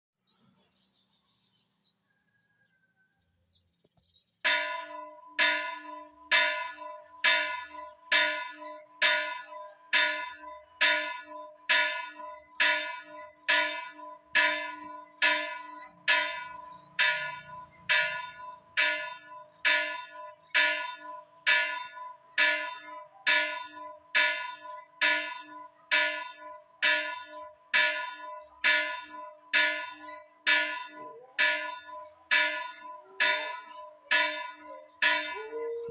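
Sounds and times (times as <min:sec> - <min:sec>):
church bell tolling: 0:04.5 - 0:35.9.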